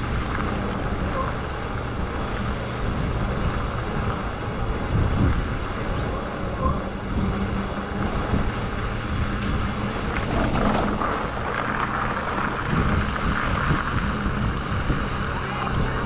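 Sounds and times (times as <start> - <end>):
tyre and road noise: 0.0 - 16.0
wind rushing over microphone: 0.0 - 16.0.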